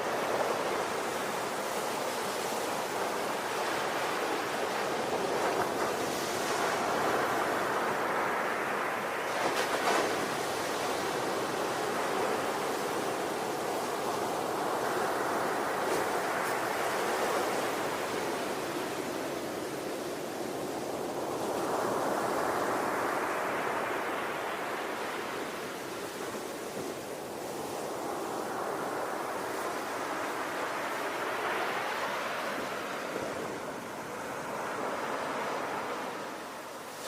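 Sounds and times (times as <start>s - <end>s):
ocean waves surging: 0.0s - 37.0s.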